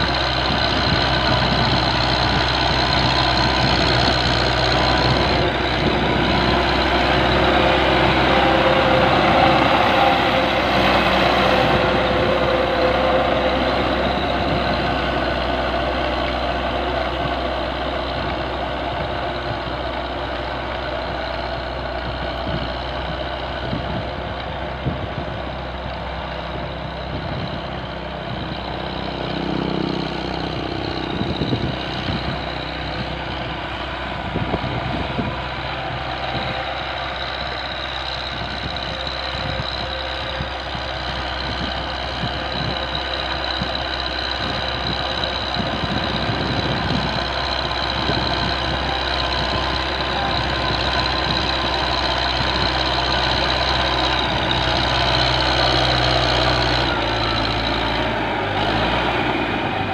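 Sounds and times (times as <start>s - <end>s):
high whine: 0.0s - 59.9s
tractor diesel engine running: 0.0s - 59.9s.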